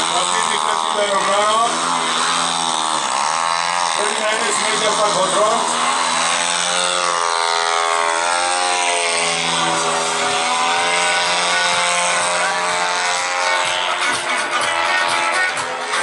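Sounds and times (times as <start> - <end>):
model airplane engine droning: 0.0 - 16.0.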